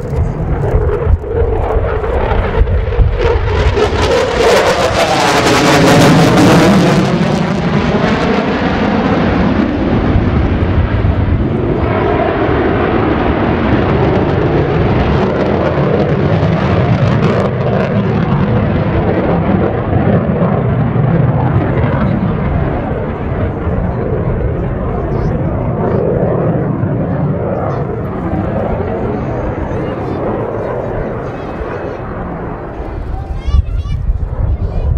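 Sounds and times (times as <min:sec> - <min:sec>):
fighter jet engine roar: 0:00.0 - 0:34.9.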